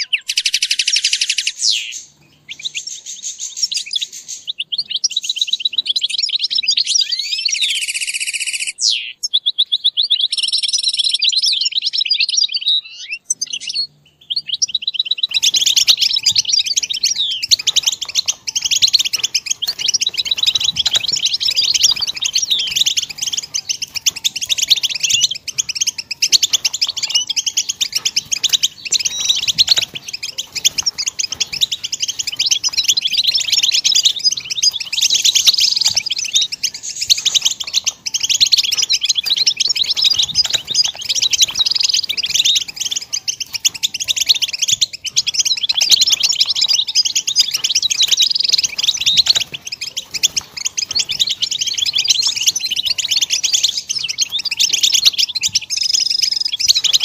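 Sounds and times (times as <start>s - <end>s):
goldfinch twittering song: 0.0s - 57.0s.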